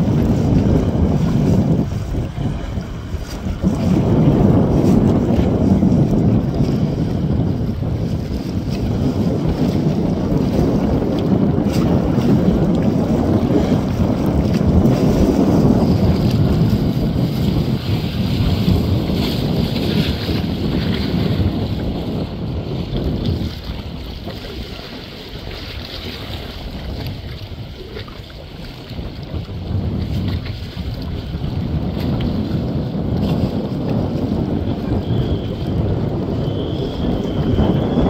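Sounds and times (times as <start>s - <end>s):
wind blowing across microphone: 0.0s - 38.0s.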